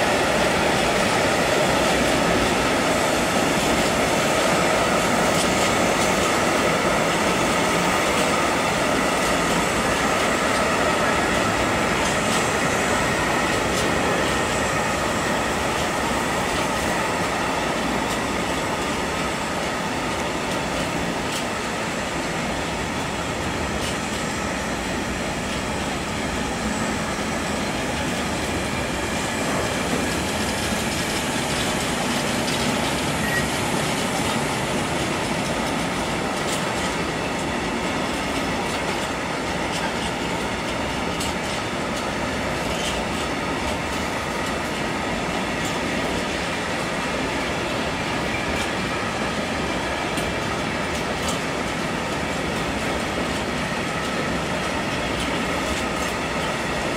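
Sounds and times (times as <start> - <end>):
train wheels rumbling on rails: 0.0 - 56.9
wheels clicking over rail joints: 0.0 - 56.9.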